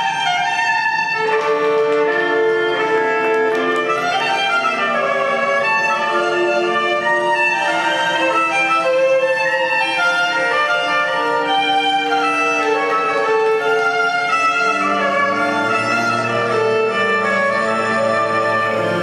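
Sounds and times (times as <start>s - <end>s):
violin melody: 0.0s - 19.0s
low string notes: 1.5s - 19.0s
sustained string chords: 1.9s - 19.0s.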